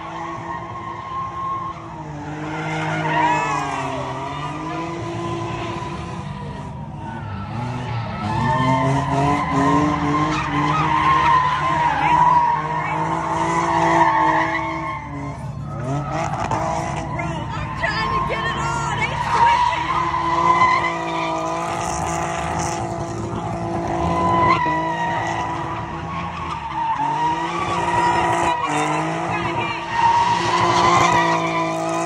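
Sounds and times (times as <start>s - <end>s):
car engine revving: 0.0s - 32.0s
tyres skidding and squealing: 0.0s - 32.0s.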